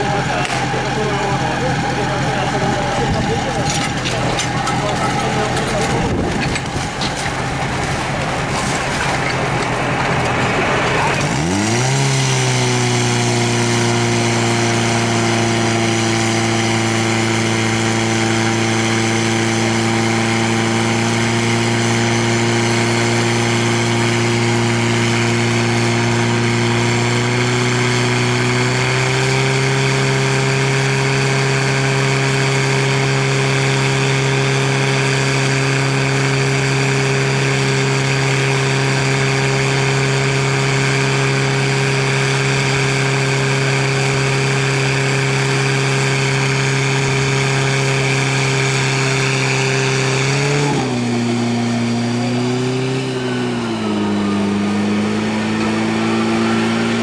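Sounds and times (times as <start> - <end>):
fire pump engine revving: 0.0 - 57.0.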